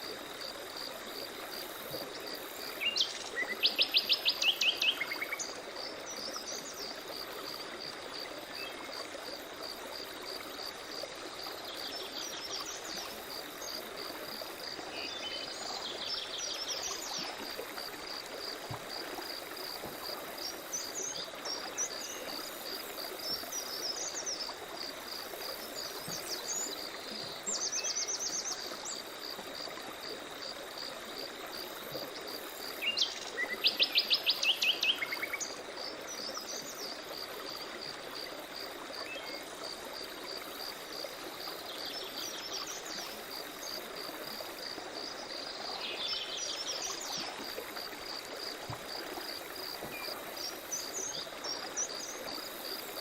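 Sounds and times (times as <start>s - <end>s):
running water hiss: 0.0s - 53.0s.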